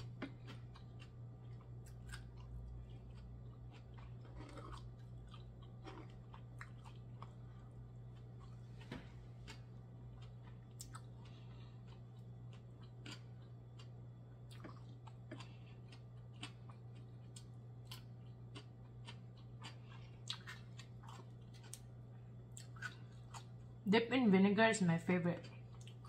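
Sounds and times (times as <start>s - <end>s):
chewing clicks and smacks: 0.0s - 21.9s, 22.5s - 23.6s, 25.4s - 26.0s
steady low hum: 0.0s - 26.0s.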